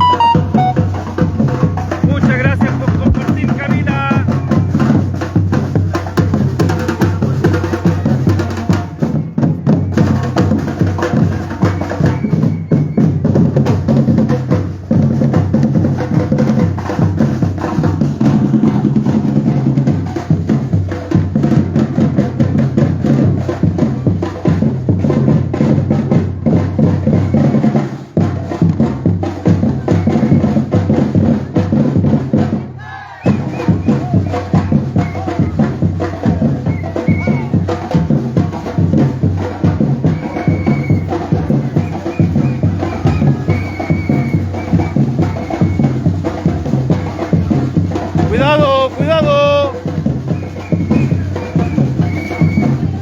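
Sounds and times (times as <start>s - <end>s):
percussion group drumming: 0.0s - 53.0s.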